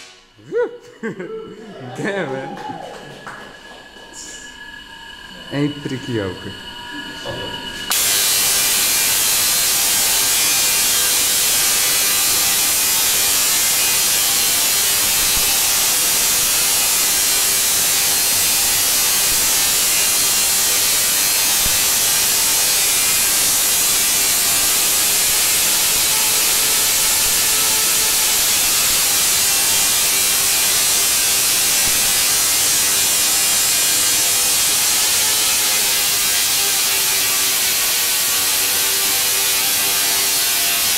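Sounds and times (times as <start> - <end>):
tesla coil sparks discharging: 7.8 - 40.9.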